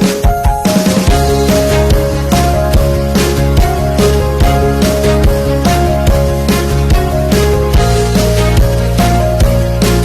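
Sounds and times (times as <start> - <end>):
upbeat music with plucked melody: 0.0 - 10.0.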